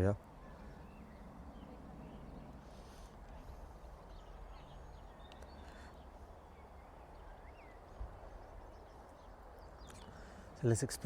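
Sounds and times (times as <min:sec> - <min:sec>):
bird chirps: 0:00.3 - 0:03.2, 0:03.8 - 0:10.4.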